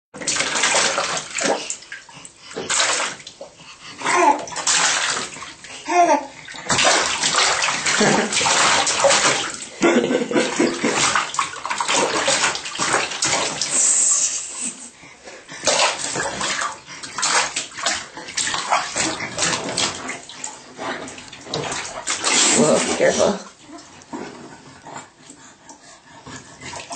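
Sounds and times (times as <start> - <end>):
baby splashing water in tub: 0.2 - 26.9.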